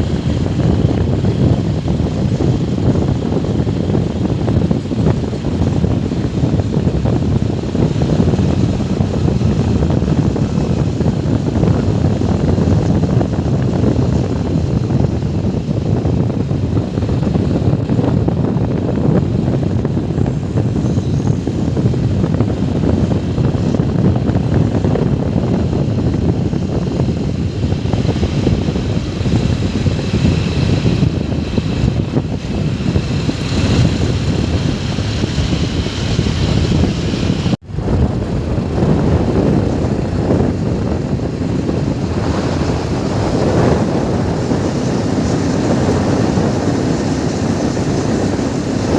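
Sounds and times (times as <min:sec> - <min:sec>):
motorcycle engine: 0:00.0 - 0:48.9
wind rumble on microphone: 0:00.0 - 0:48.9.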